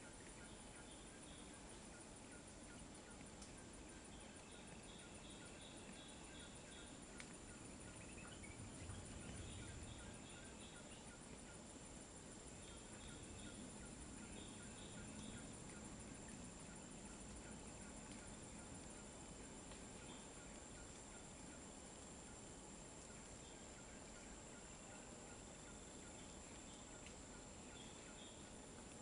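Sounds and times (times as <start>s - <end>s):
pulsing insect drone: 0.0s - 29.0s.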